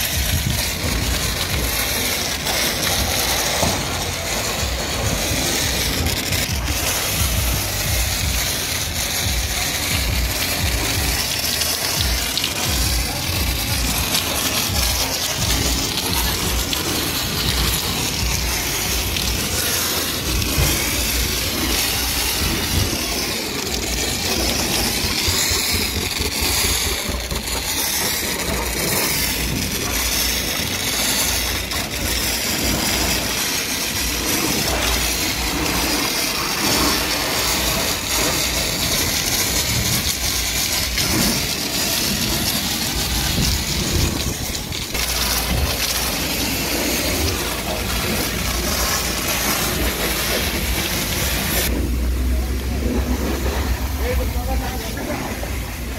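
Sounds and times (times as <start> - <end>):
foam lance spraying hiss: 0.0 - 55.9
low machine drone: 0.0 - 55.9.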